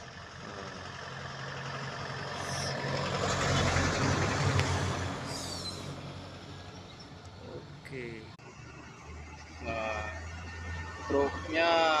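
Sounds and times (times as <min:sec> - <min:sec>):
truck driving past: 0:00.0 - 0:12.0.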